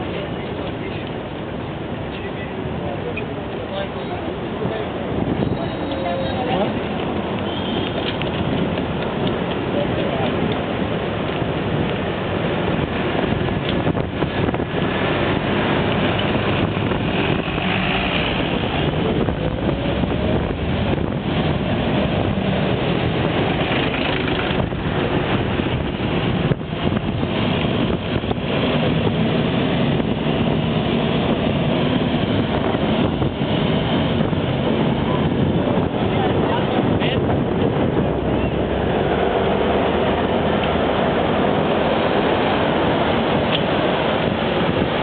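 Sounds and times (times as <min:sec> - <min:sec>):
city traffic noise: 0:00.0 - 0:45.0
wind rushing over microphone: 0:00.0 - 0:45.0.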